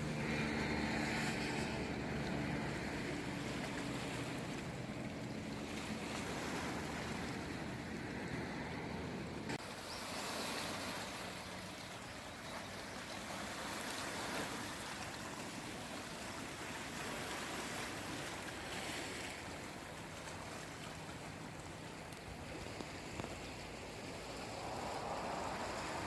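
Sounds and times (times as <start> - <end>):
small waves washing on shore: 0.0 - 26.0.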